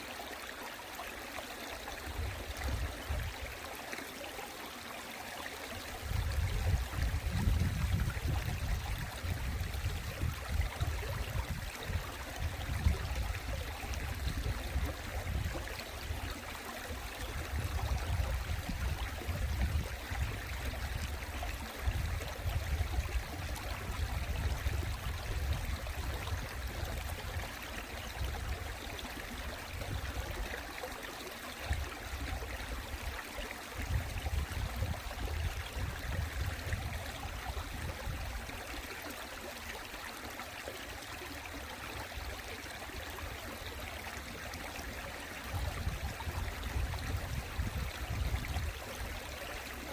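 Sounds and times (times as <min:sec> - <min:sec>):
stream water flowing: 0:00.0 - 0:49.9.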